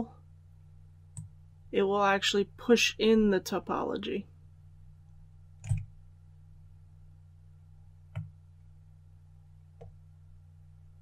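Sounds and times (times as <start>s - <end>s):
low hum: 0.0s - 3.3s, 4.0s - 11.0s.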